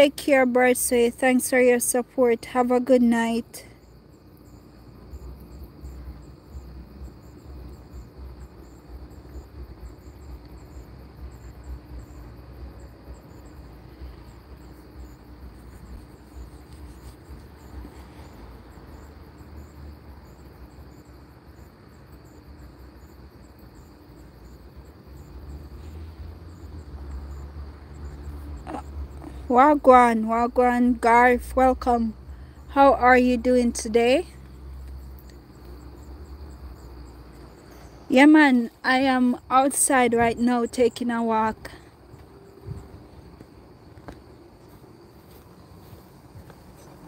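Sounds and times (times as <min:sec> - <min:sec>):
night insects chirping: 0:00.0 - 0:47.0.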